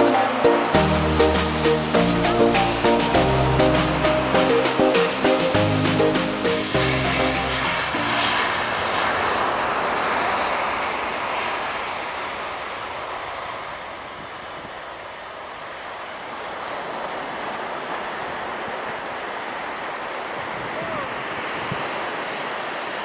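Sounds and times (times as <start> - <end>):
surf washing on a beach: 0.0 - 23.0.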